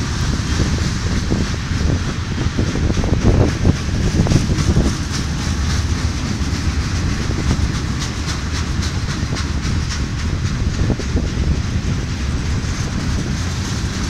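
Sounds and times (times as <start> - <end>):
steel wheels rolling on rails: 0.0 - 14.0
wheels clicking over rail joints: 0.0 - 14.0.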